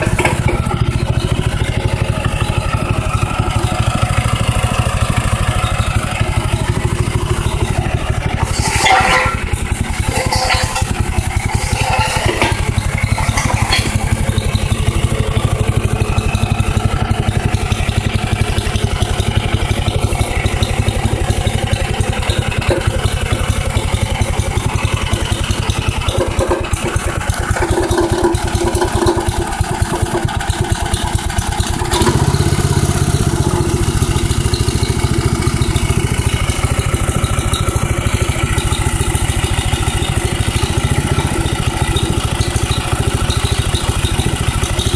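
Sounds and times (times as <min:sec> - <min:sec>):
compactor engine running: 0:00.0 - 0:44.9
vibrating plate rattling: 0:00.0 - 0:44.9.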